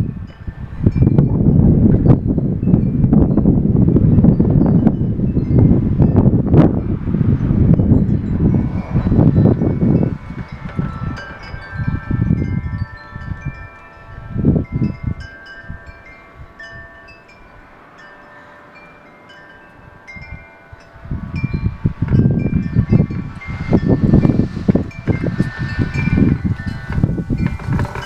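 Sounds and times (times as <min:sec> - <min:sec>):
wind chimes ringing: 0:00.0 - 0:28.0
wind gusts on microphone: 0:00.0 - 0:28.0.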